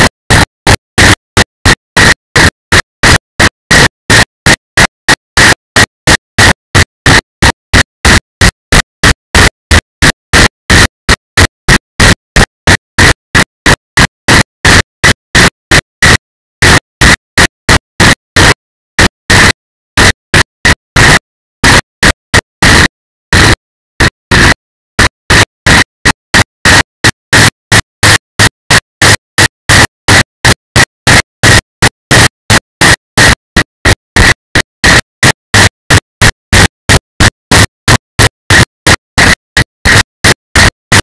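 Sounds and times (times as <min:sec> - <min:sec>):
harsh static bursts: 0:00.0 - 0:41.0.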